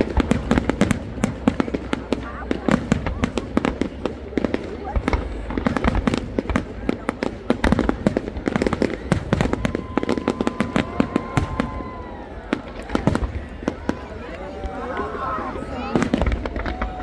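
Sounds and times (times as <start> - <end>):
fireworks cracks and bangs: 0.0 - 17.0.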